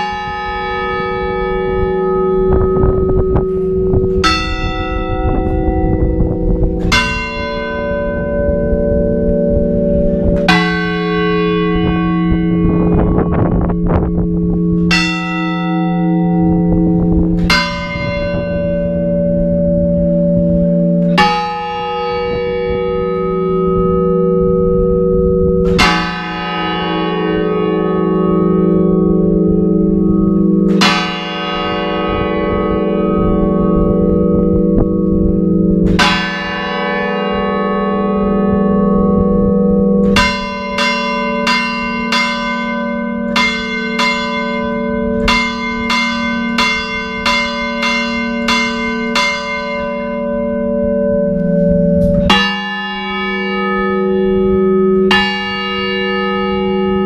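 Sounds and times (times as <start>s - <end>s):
church bells tolling: 0.0s - 57.0s.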